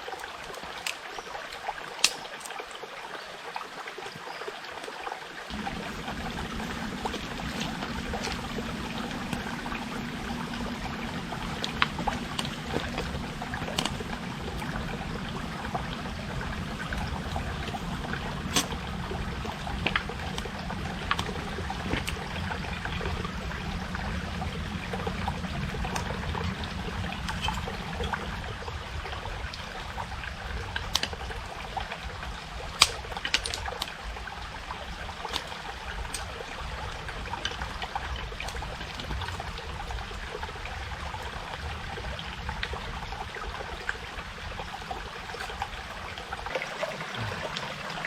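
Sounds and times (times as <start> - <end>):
stream trickling: 0.0 - 48.0.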